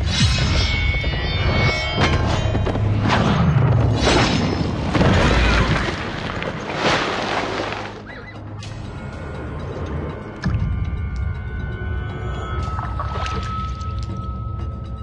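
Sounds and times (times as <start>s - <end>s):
dramatic film score: 0.0s - 15.0s.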